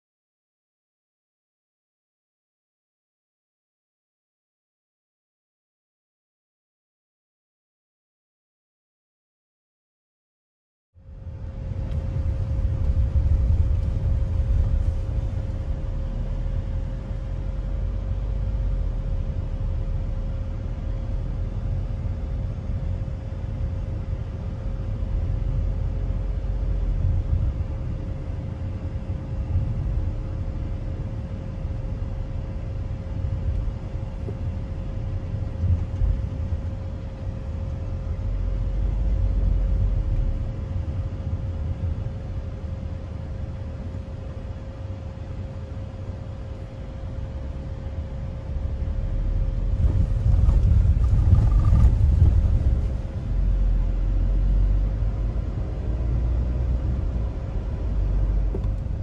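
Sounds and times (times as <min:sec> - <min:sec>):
car cabin road rumble: 0:11.0 - 0:59.0
faint constant whine: 0:11.0 - 0:59.0.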